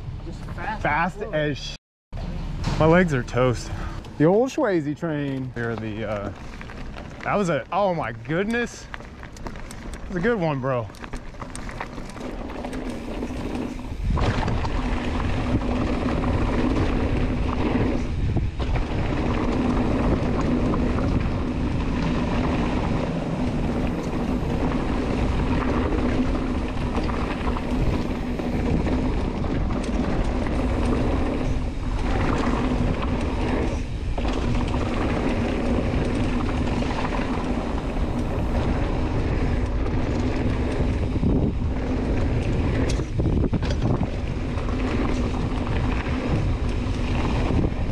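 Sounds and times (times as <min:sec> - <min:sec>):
mountain bike rumbling on dirt: 0:02.2 - 0:47.9
wind buffeting microphone: 0:02.3 - 0:47.9.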